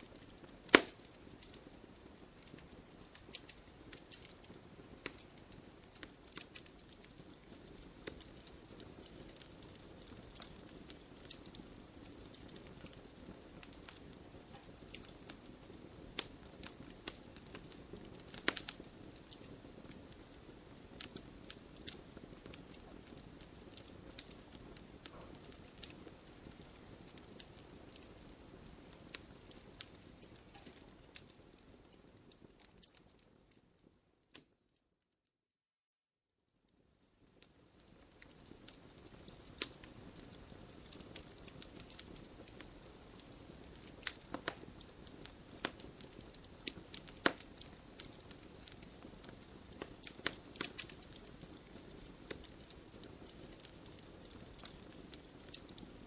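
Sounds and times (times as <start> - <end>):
wood fire crackling and popping: 0.0 - 34.6, 36.7 - 56.0.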